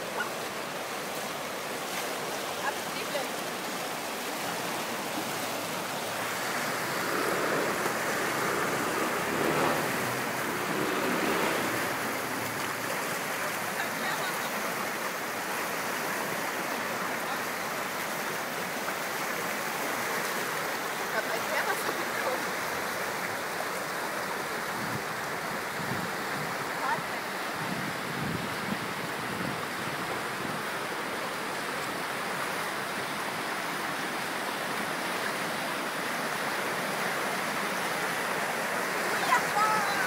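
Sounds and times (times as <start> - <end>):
river rapids rushing: 0.0 - 40.0.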